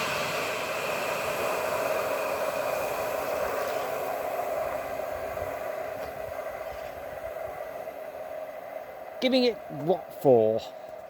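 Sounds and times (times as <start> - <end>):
tram motor whine: 0.0 - 11.0
tram wheels rolling on rail: 0.0 - 11.0.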